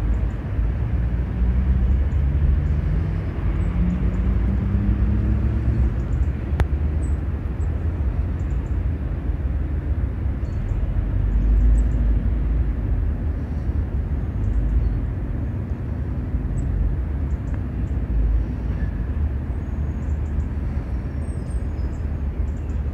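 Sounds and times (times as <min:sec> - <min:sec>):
road traffic rumble: 0:00.0 - 0:22.9.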